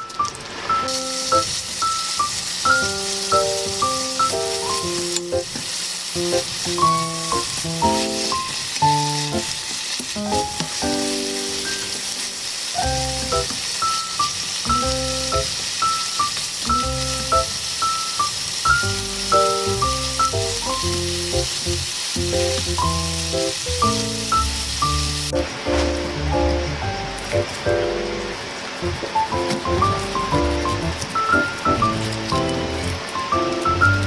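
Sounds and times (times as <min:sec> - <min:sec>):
background music melody: 0:00.0 - 0:34.0
chicken sizzling in pan: 0:00.0 - 0:34.0.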